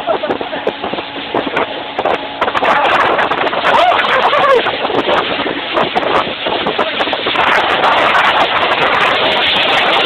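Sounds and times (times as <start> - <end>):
speedboat engine and water rush: 0.0 - 10.0.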